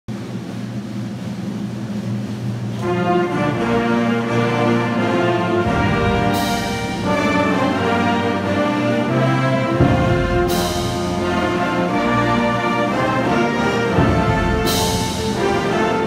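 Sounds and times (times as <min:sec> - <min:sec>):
symphonic band playing: 0:02.1 - 0:16.0
low brass held notes: 0:02.7 - 0:16.0.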